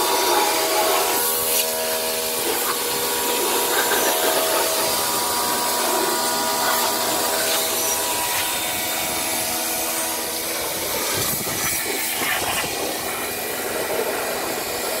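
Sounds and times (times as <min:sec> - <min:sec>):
pressure washer motor hum: 0:00.0 - 0:15.0
water jet hissing: 0:00.0 - 0:15.0.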